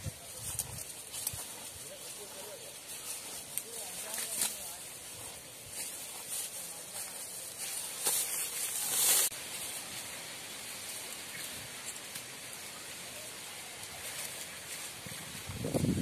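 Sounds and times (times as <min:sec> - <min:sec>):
grass rustling as cows graze: 0:00.0 - 0:16.0.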